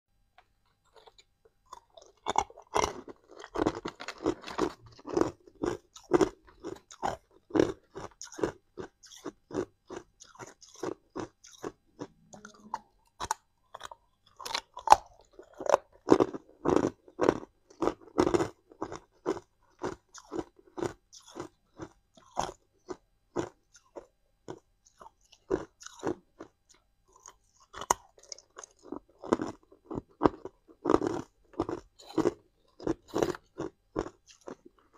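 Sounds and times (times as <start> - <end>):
ice being chewed: 0.8 - 34.9.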